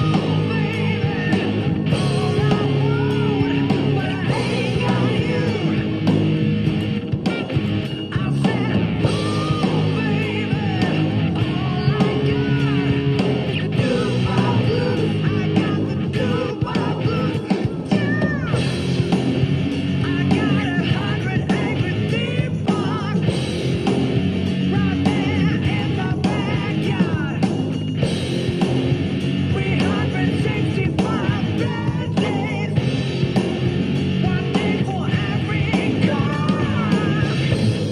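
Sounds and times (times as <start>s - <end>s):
electric guitar lead with bent notes: 0.0s - 37.9s
rock backing with drums: 0.0s - 37.9s.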